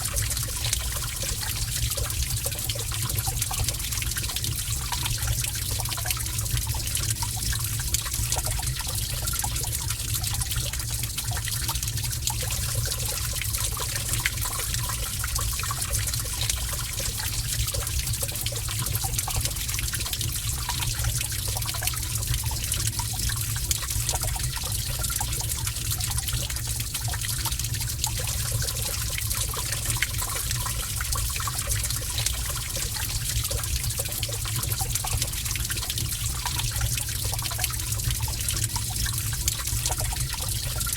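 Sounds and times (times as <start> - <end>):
water splashes and drips: 0.0 - 40.9
water trickling: 0.0 - 40.9.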